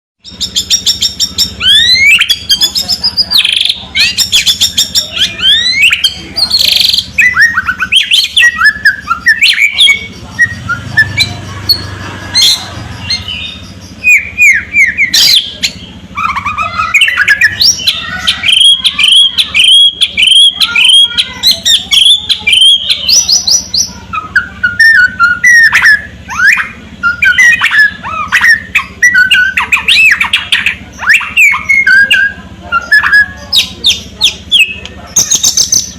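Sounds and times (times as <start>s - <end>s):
songbird singing: 0.2s - 35.9s.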